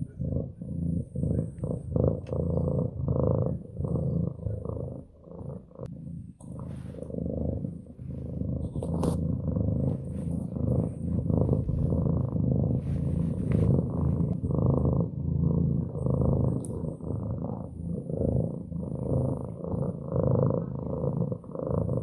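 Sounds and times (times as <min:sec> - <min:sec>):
cat purring loudly: 0:00.0 - 0:22.0.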